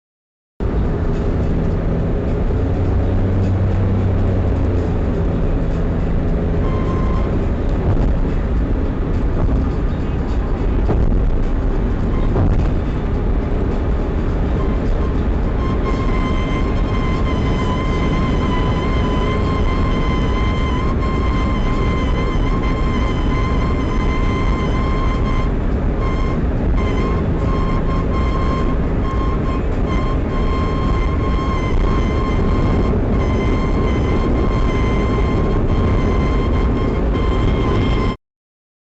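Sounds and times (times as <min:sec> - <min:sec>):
car engine rumble: 0:00.6 - 0:38.2
low hum: 0:00.6 - 0:38.2.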